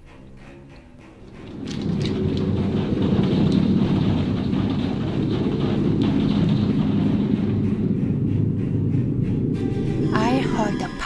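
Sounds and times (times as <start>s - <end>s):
wooden wheel rumbling: 1.1s - 11.0s.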